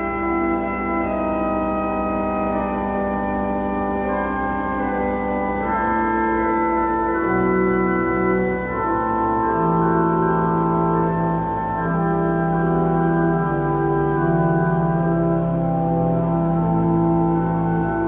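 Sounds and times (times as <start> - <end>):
pipe organ playing a hymn: 0.0 - 18.0.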